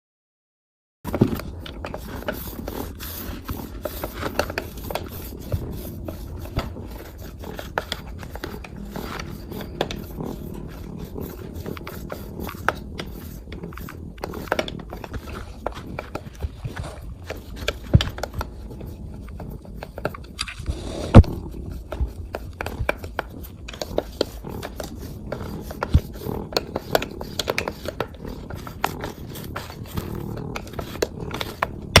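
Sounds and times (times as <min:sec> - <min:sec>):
lint roller crackling on fur: 0:01.1 - 0:32.0
cat purring: 0:01.2 - 0:32.0.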